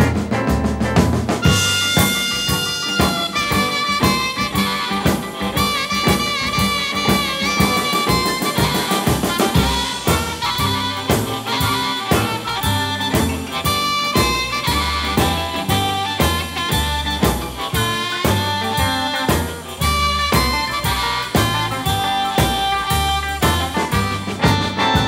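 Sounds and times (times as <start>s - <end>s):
steady drum beat: 0.0s - 25.0s.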